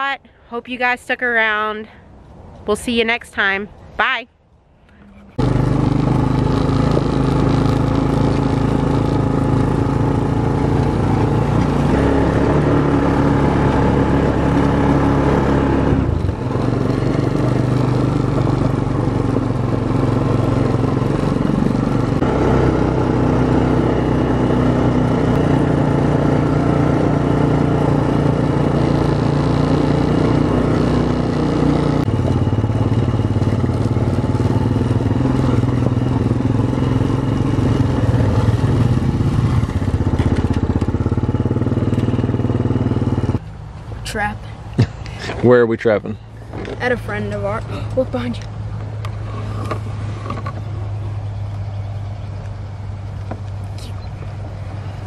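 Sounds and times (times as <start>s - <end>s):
atv engine running: 5.0s - 55.0s.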